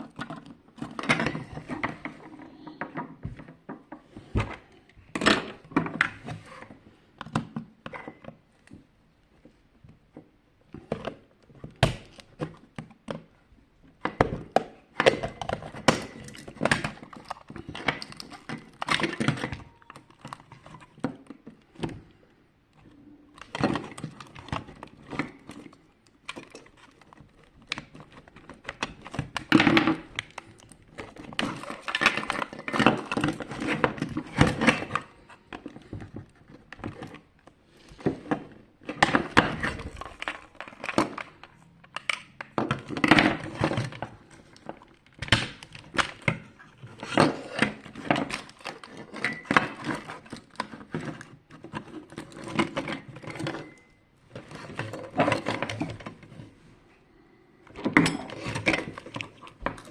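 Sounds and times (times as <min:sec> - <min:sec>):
plastic parts clicking and knocking: 0:00.0 - 0:56.5, 0:57.6 - 0:59.9.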